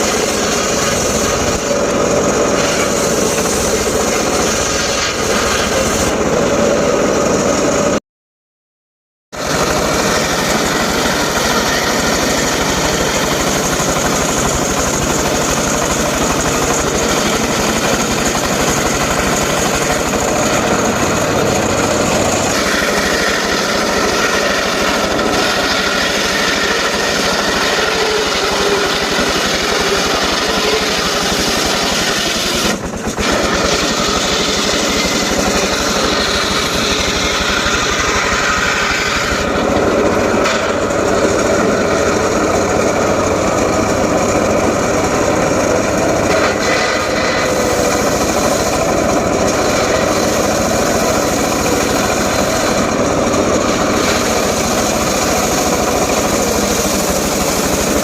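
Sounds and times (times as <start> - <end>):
engine-driven saw cutting wood: 0.0 - 8.0, 9.3 - 58.0.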